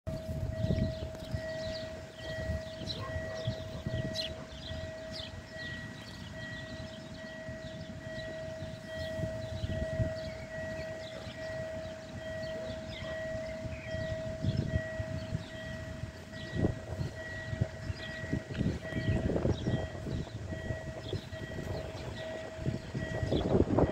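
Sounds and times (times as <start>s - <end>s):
level-crossing pulsing warning tone: 0.1s - 23.9s.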